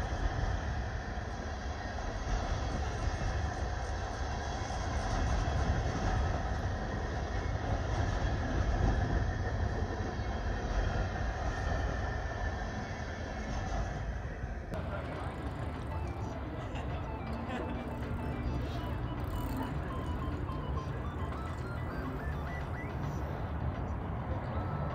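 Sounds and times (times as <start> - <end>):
train wheels on rails: 0.0 - 24.9.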